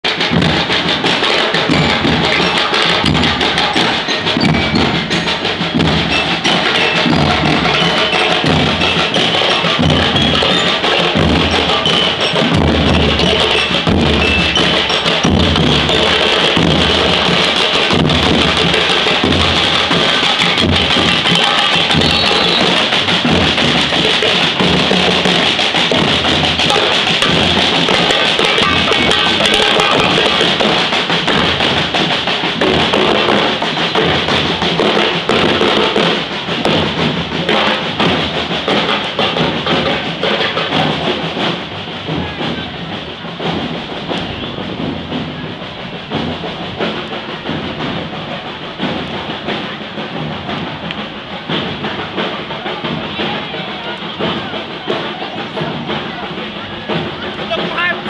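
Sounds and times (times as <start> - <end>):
bass drums: 0.0 - 58.0
cymbals: 0.0 - 58.0
snare drums: 0.0 - 58.0.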